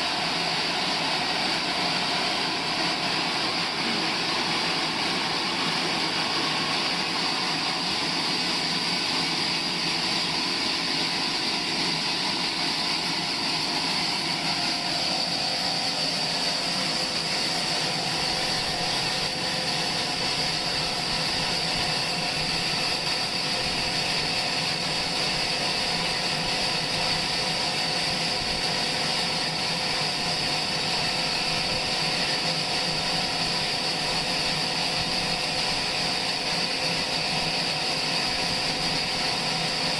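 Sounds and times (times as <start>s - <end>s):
high saw whine: 0.0s - 39.9s
sawmill machinery running: 0.0s - 39.9s.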